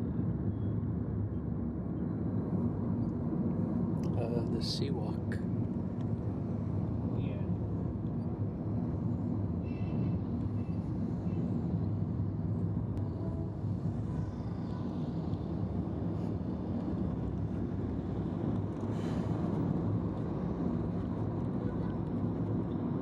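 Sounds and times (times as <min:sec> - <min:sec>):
road noise: 0:00.0 - 0:23.0
vehicle engine rumble: 0:00.0 - 0:23.0.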